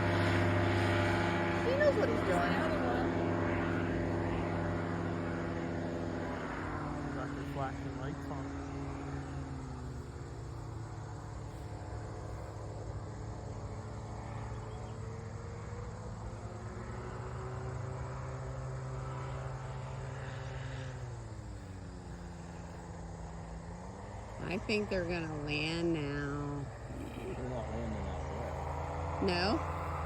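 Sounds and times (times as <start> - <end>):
small aircraft engine droning: 0.0 - 30.0.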